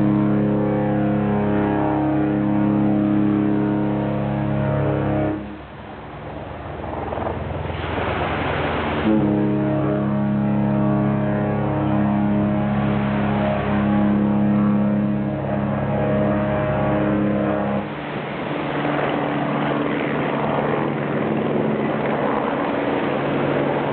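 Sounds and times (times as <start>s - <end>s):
ship horn blast: 0.0s - 6.2s, 8.0s - 23.9s
steady rushing noise: 0.0s - 23.9s.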